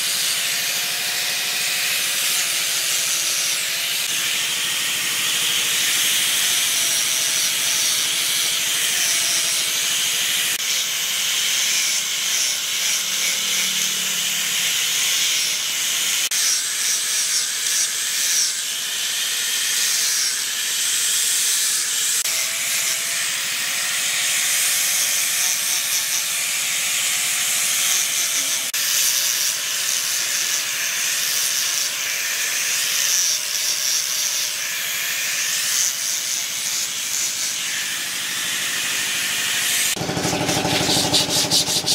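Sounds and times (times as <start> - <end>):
angle grinder sanding wood: 0.0 - 41.9.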